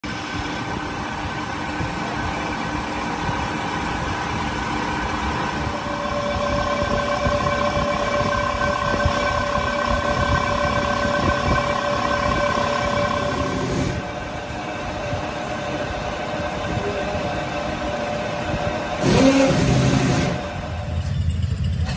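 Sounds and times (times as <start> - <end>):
machine whining tones: 0.0 - 21.9.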